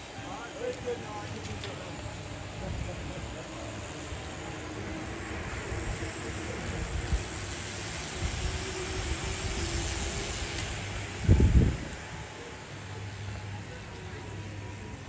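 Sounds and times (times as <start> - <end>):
bicycle tyres hissing on tarmac: 0.0 - 15.0.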